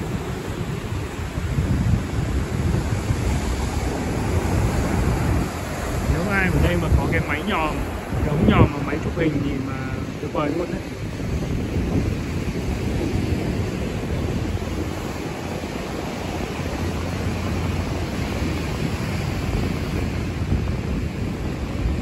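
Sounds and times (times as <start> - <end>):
ocean surf breaking on rocks: 0.0 - 22.0
wind buffeting microphone: 0.0 - 22.0.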